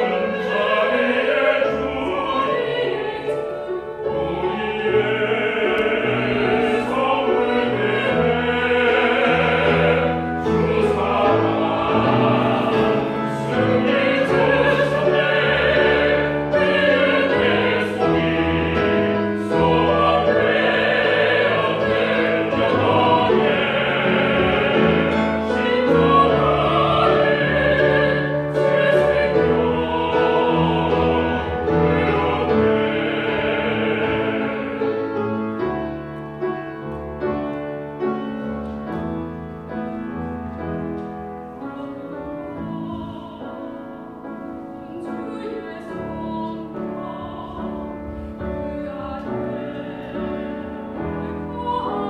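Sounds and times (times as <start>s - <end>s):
choir singing operatic hymn: 0.0s - 52.0s
piano accompaniment: 0.0s - 52.0s.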